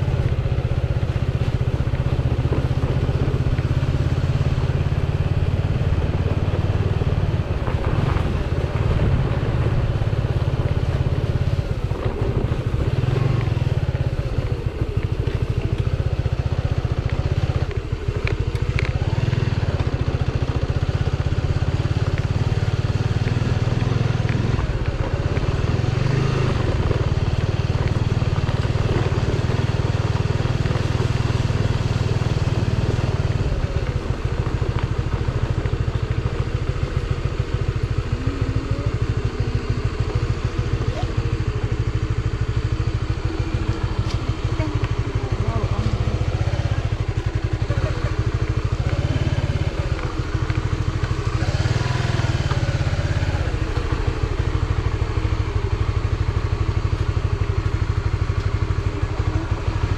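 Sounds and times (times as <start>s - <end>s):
motorcycle engine rumble: 0.0s - 59.9s.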